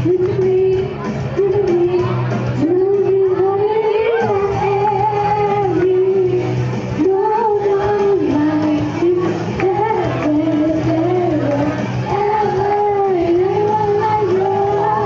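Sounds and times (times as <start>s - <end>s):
accompanying music: 0.0s - 15.0s
girl singing into microphone: 0.0s - 15.0s.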